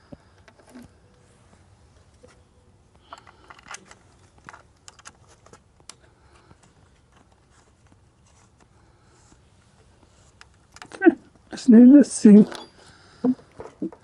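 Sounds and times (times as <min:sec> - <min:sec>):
hands rustling cable: 0:00.0 - 0:11.6.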